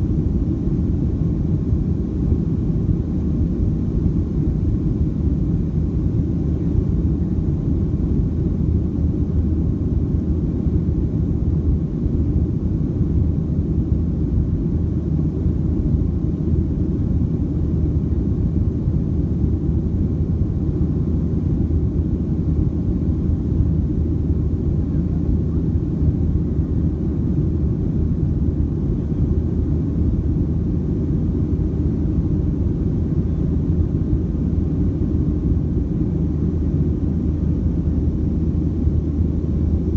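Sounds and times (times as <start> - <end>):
airflow over airframe: 0.0 - 39.9
jet engine rumble in cabin: 0.0 - 39.9.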